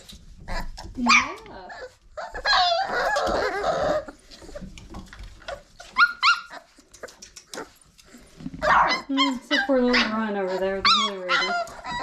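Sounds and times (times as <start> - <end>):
puppies vocalising: 0.0 - 12.0
puppy yips: 0.5 - 4.7, 5.4 - 12.0.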